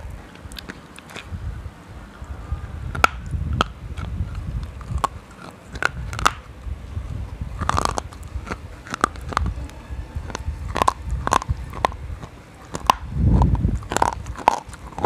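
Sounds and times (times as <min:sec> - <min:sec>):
biting crisp cracks: 0:00.0 - 0:01.4, 0:02.9 - 0:15.0
chewing and grinding: 0:00.0 - 0:01.6, 0:02.9 - 0:15.0
dense crackling: 0:00.0 - 0:15.0.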